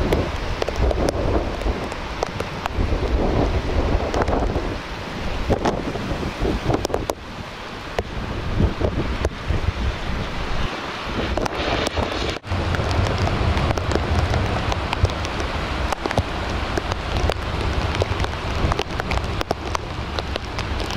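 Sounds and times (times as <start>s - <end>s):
rain falling: 0.0s - 20.9s
wind buffeting microphone: 0.0s - 20.9s.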